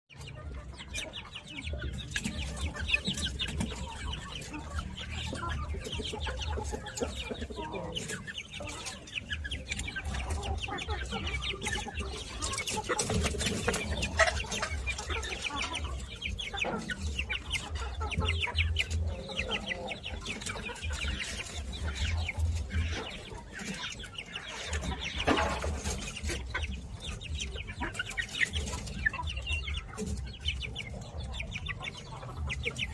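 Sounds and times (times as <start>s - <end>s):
chicks peeping and clucking: 0.0s - 32.9s.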